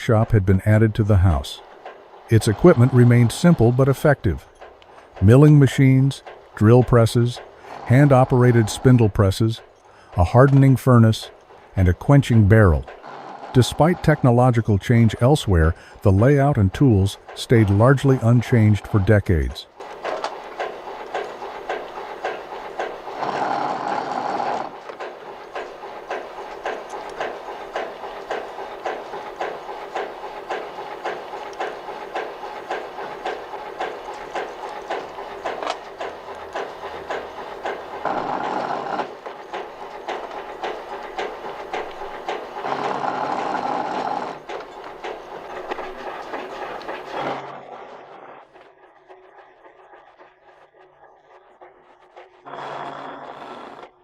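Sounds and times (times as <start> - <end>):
metalworking machinery clattering: 0.0 - 52.6
machine working metal: 0.0 - 54.0.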